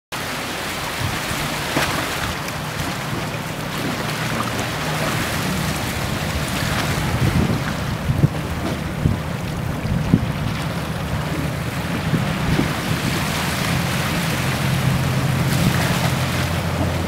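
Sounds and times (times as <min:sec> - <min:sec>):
boat diesel engines droning: 0:00.2 - 0:17.0
bow wave rushing: 0:00.7 - 0:17.0
wind on microphone: 0:00.8 - 0:17.0.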